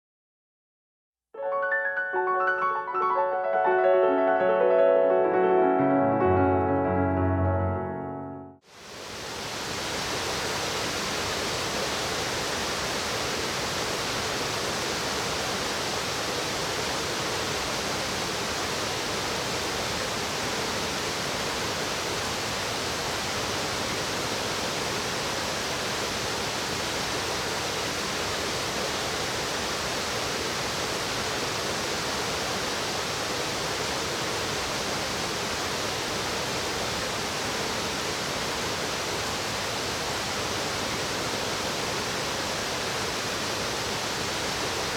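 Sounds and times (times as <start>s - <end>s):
stream rushing water: 8.7s - 44.9s.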